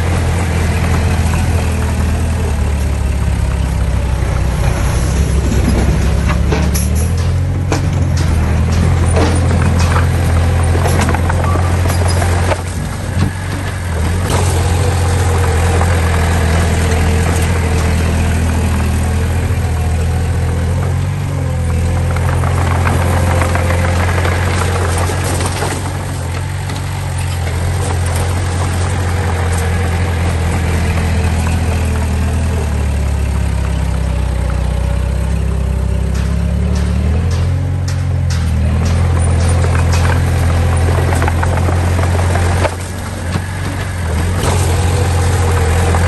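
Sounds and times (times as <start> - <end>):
heavy diesel engine rumbling: 0.0 - 46.0.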